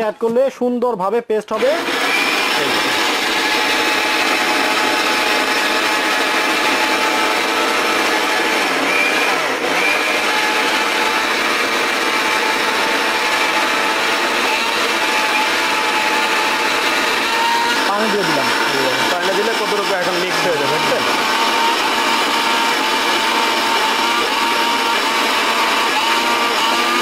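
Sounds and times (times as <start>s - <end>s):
blender grinding chillies: 1.5s - 27.0s.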